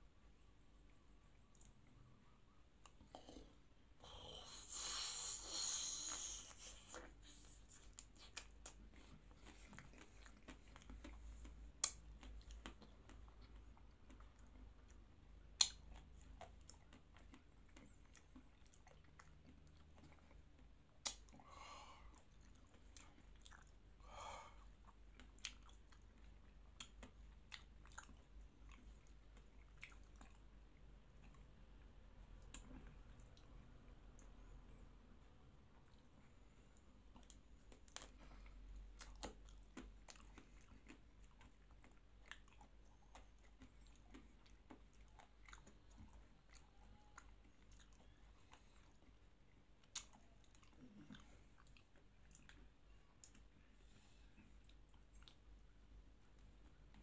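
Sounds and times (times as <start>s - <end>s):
chewing with mouth clicks: 0.8s - 3.9s, 4.5s - 57.0s.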